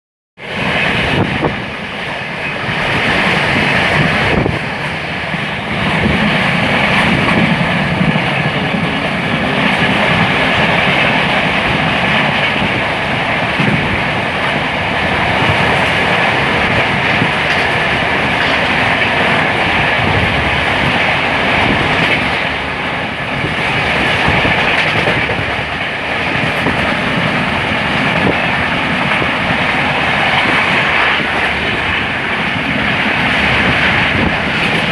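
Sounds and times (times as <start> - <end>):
train rumble and rush: 0.4 - 34.9.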